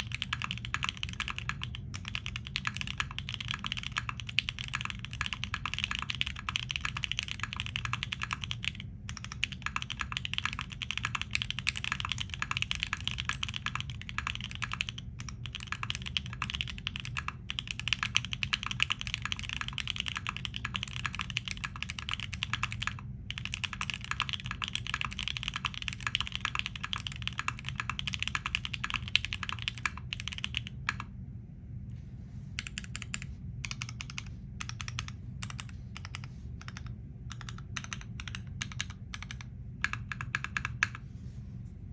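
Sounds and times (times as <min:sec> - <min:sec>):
fast typing on mechanical keyboard: 0:00.0 - 0:31.1, 0:32.6 - 0:41.0.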